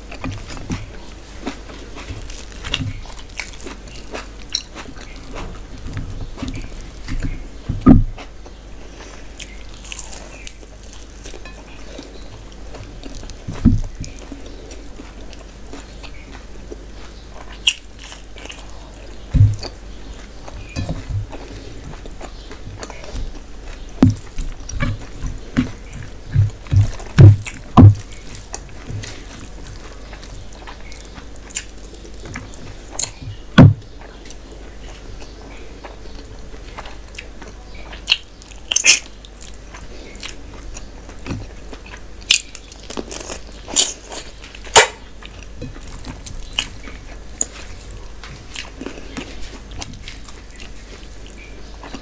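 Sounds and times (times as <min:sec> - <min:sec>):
wet chewing sounds: 0:00.0 - 0:52.0.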